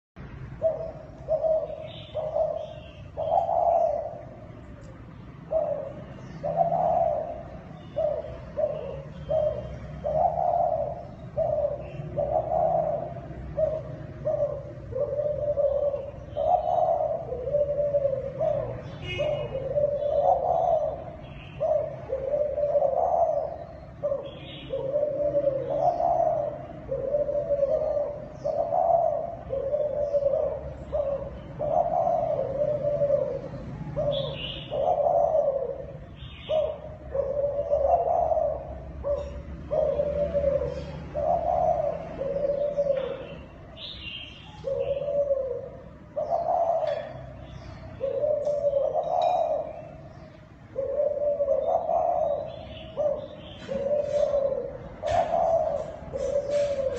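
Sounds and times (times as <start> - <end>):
dove cooing: 0.2 - 56.9.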